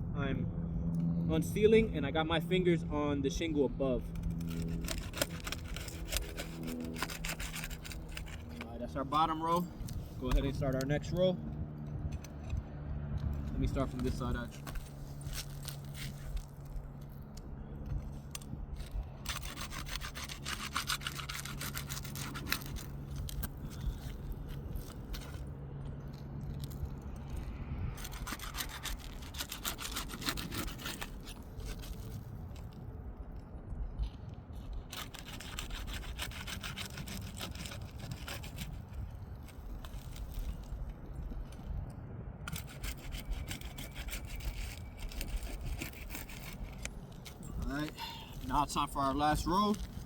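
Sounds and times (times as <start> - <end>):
pry bar scraping shingles: 3.8 - 32.8, 34.1 - 41.6, 42.5 - 50.0.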